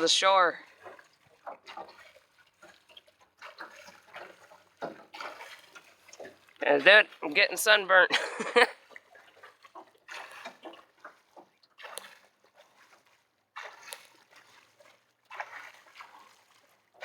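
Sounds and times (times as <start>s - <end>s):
water splashing from swim strokes: 0.0s - 17.0s.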